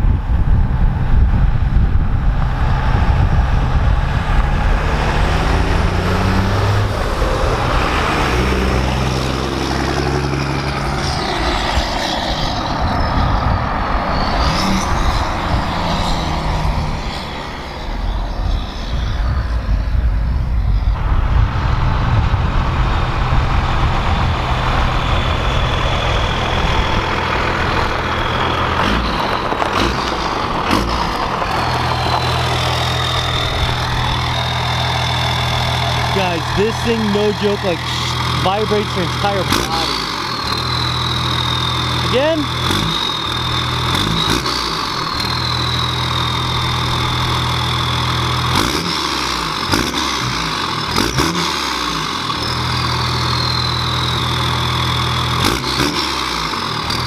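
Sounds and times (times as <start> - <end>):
loud diesel truck engine: 0.0 - 57.0.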